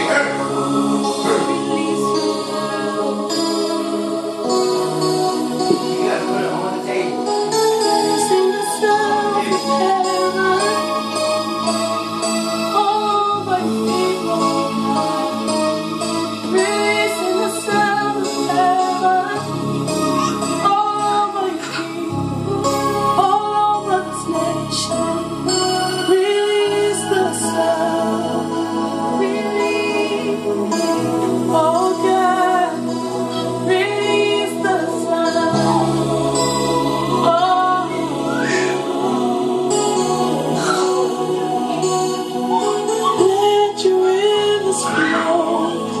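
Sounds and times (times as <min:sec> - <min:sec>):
sustained keyboard chords: 0:00.0 - 0:46.0
women singing worship: 0:00.0 - 0:46.0.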